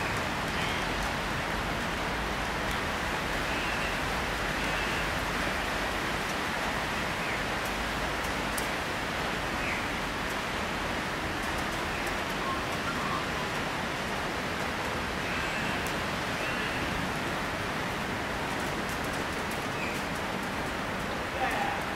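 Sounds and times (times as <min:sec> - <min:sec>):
steady outdoor hiss: 0:00.0 - 0:21.9.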